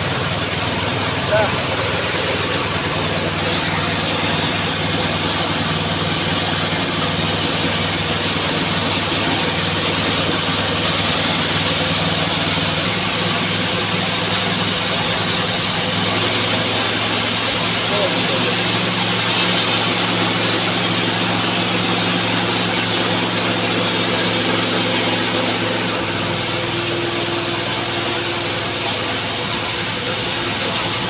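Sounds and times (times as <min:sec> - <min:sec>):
electric motor low hum: 0:00.0 - 0:31.0
sawmill saw rushing noise: 0:00.0 - 0:31.0.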